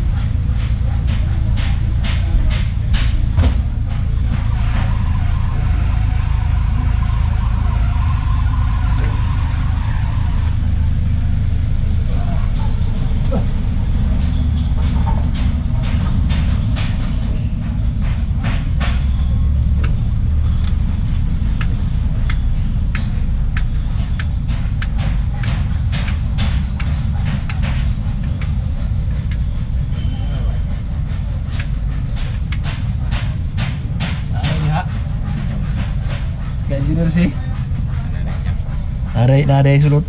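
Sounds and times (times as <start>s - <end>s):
low mechanical rumble: 0.0s - 40.0s.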